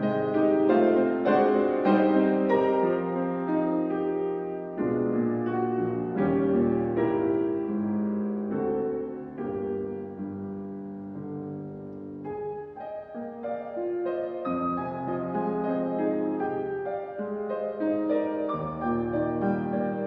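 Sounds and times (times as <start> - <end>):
classical solo piano: 0.0 - 20.0.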